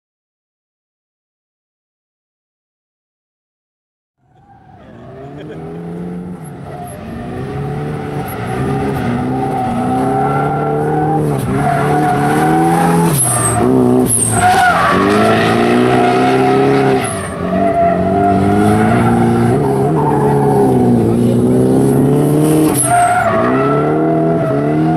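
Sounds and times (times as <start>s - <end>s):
car engine revving: 4.2s - 24.9s.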